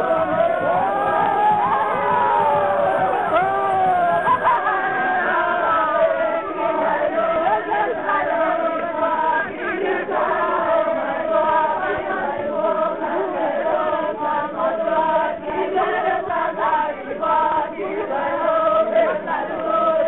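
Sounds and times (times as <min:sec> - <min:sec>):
group chanting in song: 0:00.0 - 0:20.0.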